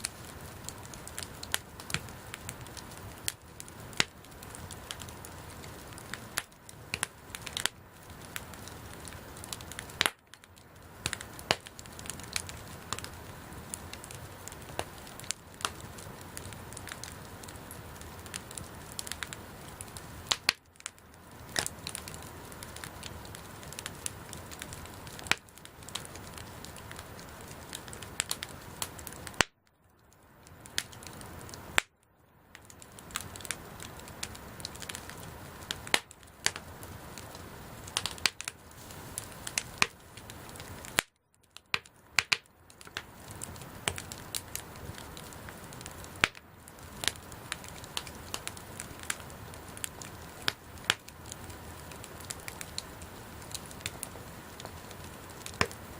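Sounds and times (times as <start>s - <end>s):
burning wood popping and snapping: 0.0s - 55.9s
campfire crackling: 0.0s - 55.9s.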